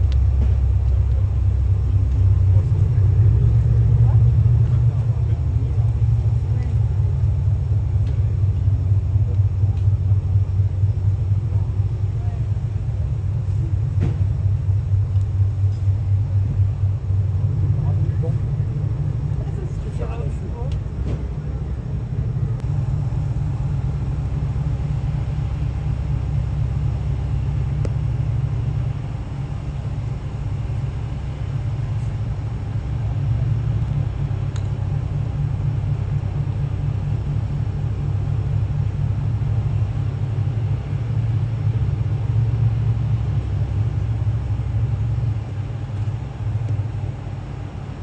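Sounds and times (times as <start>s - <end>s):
boat engines rumbling: 0.0s - 48.0s.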